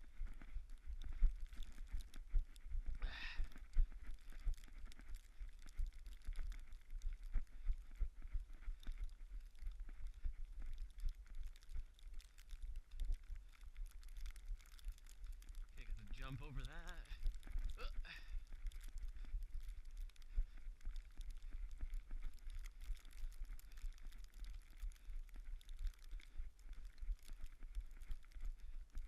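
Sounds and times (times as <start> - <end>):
running footsteps on muddy trail: 0.0 - 29.0.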